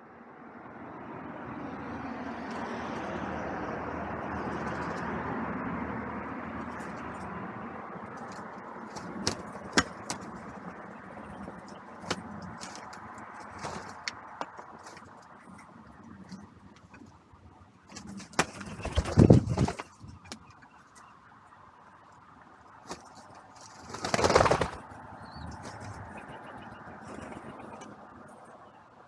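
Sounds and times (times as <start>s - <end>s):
road vehicle passing: 0.1s - 29.0s.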